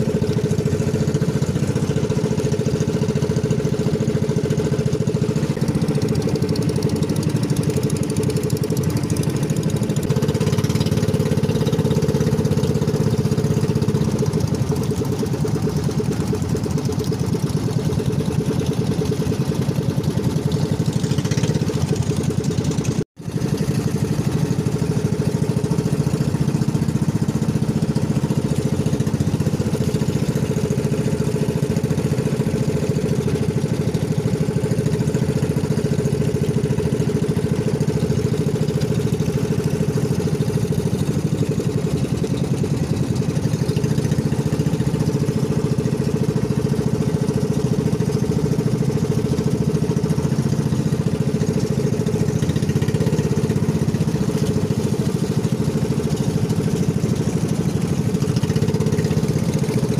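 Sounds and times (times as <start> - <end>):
boat engine running: 0.0 - 59.9
wind: 0.0 - 59.9.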